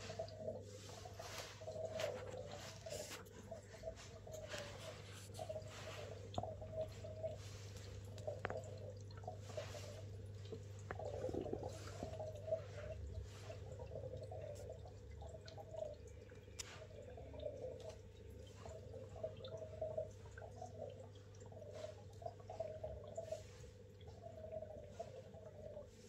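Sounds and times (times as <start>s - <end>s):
steady low hum: 0.0s - 26.0s
water dripping and gurgling: 0.0s - 26.0s.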